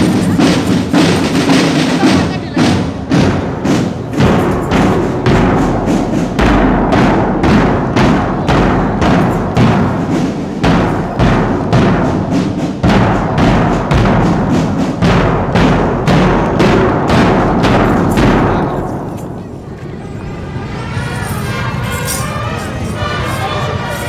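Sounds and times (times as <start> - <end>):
marching drum band: 0.0 - 19.6, 20.3 - 24.0.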